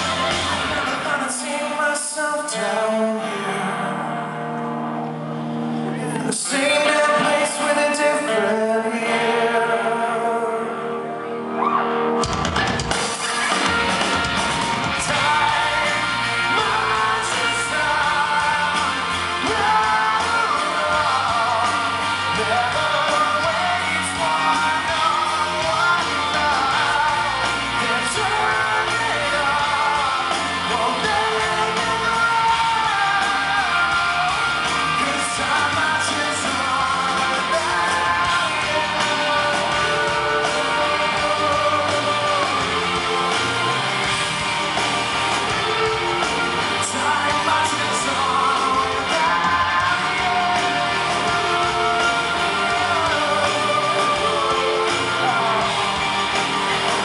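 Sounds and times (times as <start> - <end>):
bass and drums: 0.0 - 1.8, 11.6 - 57.0
man singing: 0.0 - 4.4, 5.9 - 11.2, 14.8 - 44.3, 45.5 - 57.0
live rock band playing: 0.0 - 57.0.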